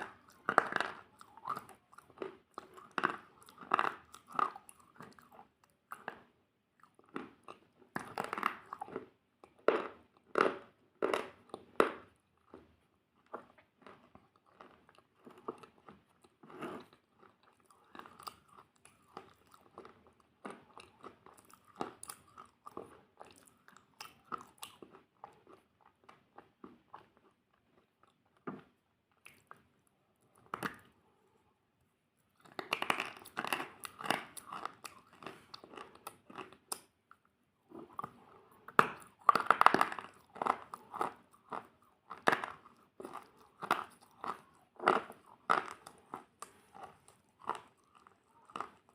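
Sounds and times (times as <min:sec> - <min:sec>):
chewing crunchy food: 0:00.0 - 0:31.4, 0:32.2 - 0:48.9.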